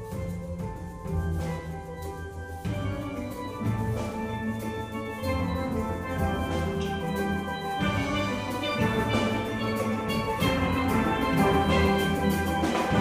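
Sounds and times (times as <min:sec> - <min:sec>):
steel pans playing melody: 0:00.0 - 0:13.0.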